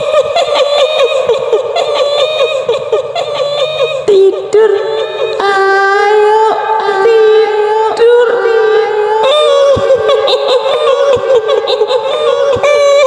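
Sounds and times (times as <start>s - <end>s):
woman wailing in song: 0.0s - 13.0s.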